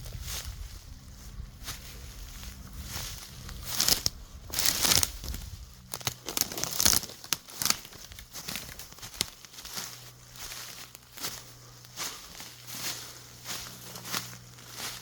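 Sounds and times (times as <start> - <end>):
footsteps crunching dry leaves: 0.0 - 15.0.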